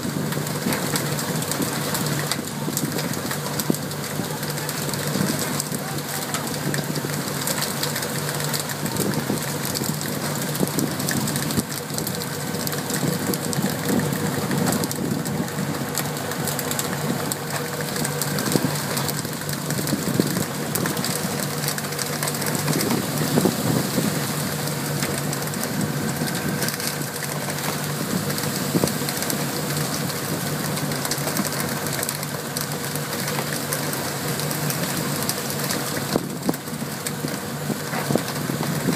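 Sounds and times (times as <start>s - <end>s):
boat engine drone: 0.0s - 38.9s
water spray pattering on sea: 0.0s - 38.9s.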